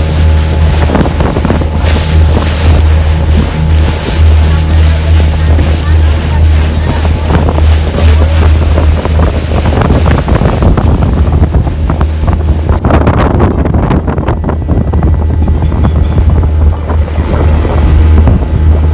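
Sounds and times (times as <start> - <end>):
water splashing along boat hull: 0.0 - 18.9
wind buffeting microphone: 0.0 - 18.9.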